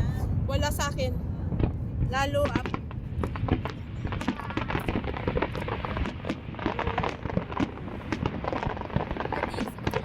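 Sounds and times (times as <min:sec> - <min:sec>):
fireworks crackling: 0:01.6 - 0:10.0.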